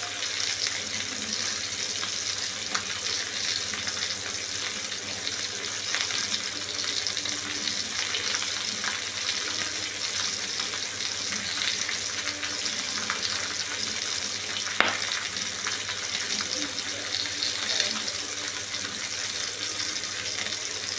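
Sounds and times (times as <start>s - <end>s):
chicken deep-frying in oil: 0.0s - 20.9s.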